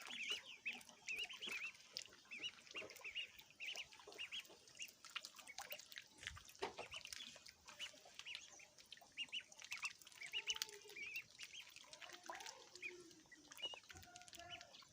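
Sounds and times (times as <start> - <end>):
ducklings peeping: 0.0 - 14.9.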